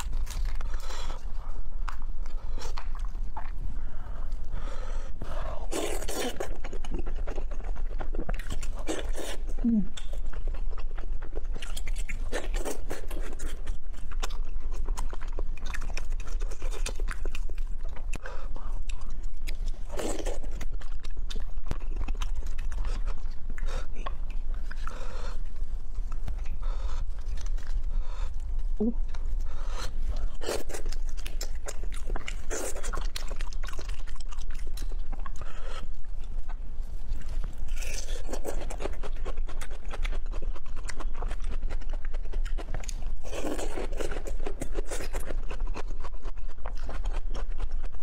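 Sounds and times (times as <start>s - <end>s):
steady low hum: 0.0s - 47.9s
wet chewing and smacking: 0.0s - 48.0s.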